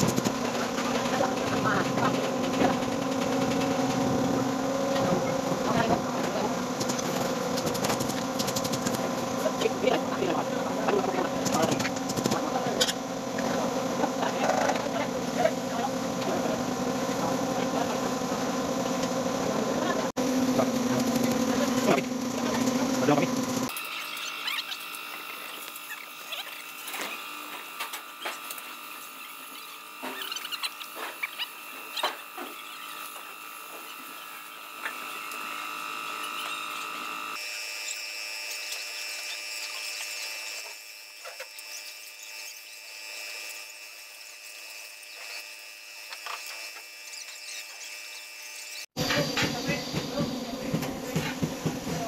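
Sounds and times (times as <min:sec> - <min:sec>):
machine high-pitched whine: 0:00.0 - 0:52.0.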